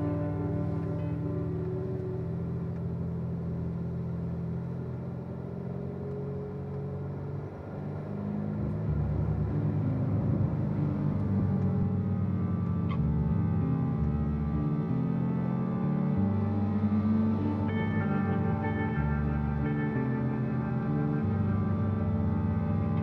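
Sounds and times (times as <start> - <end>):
slow ambient music: 0.0 - 23.0.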